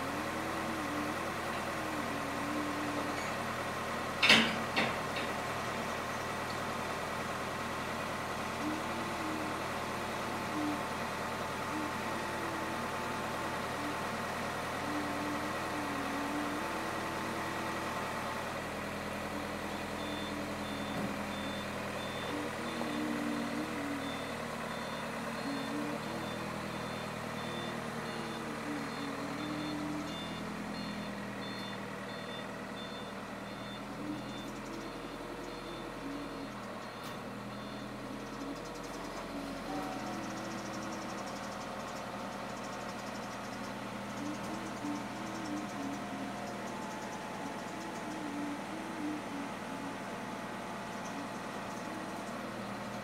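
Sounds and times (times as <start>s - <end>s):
truck engine running: 0.0s - 53.0s
reversing alarm beeps: 8.4s - 53.0s.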